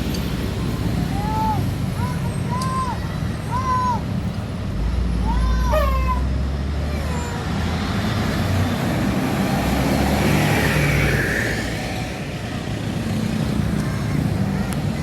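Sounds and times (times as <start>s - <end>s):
heavy vehicle engine droning: 0.0s - 15.0s.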